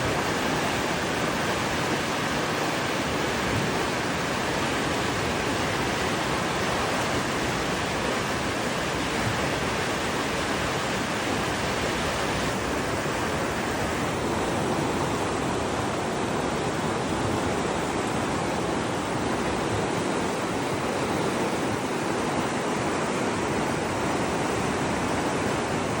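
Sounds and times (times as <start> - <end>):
running water rushing: 0.0 - 26.0.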